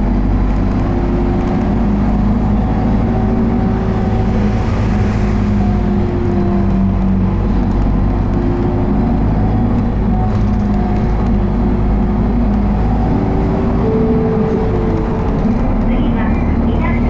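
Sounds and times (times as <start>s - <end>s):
bus engine drone from inside: 0.0s - 17.0s.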